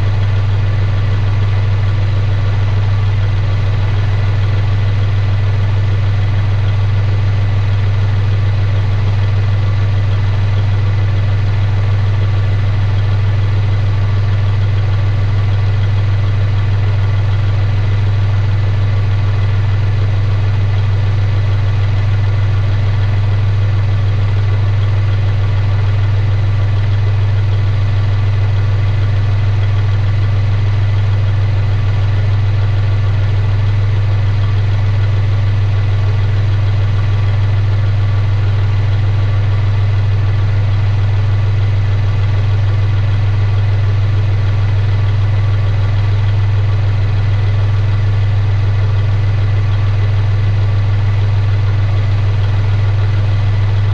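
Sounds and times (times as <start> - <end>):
diesel tractor engine idling: 0.0 - 53.9.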